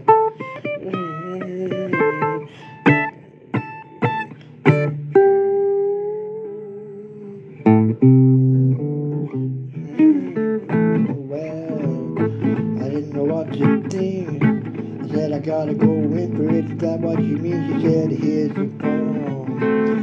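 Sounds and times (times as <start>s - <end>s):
blues guitar picked notes: 0.0s - 20.0s.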